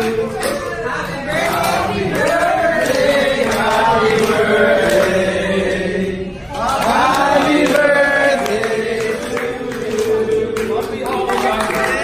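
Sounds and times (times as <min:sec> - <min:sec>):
people singing in unison: 0:00.0 - 0:12.0.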